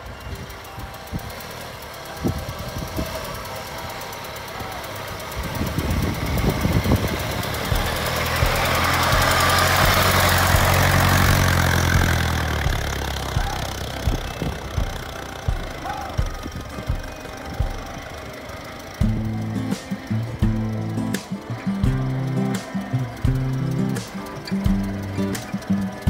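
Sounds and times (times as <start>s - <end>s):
old car engine passing: 0.0s - 26.0s
tyres crunching on gravel: 0.1s - 26.0s.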